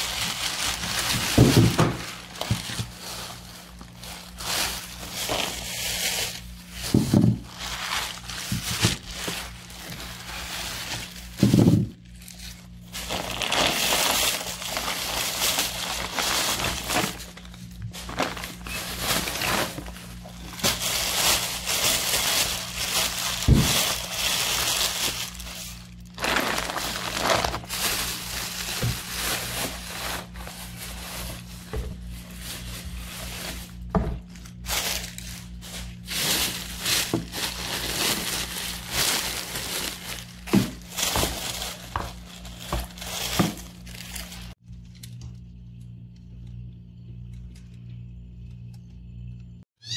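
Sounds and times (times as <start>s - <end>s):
plastic bags rustling: 0.0s - 44.6s
low steady hum: 0.0s - 49.6s.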